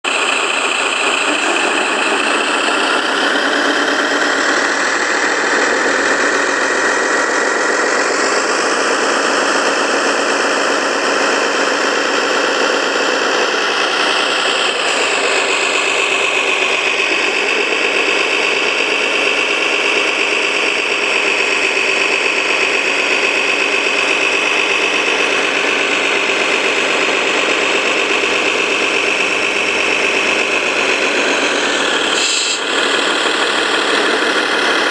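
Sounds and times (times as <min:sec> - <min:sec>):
model truck motor whining: 0:00.1 - 0:34.9.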